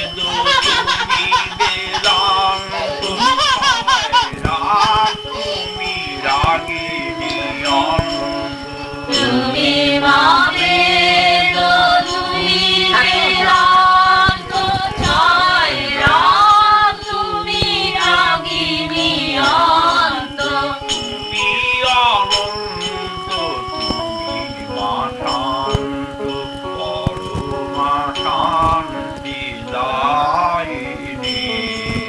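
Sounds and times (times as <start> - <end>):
devotional singing: 0.0 - 32.0
instrumental accompaniment: 0.0 - 32.0.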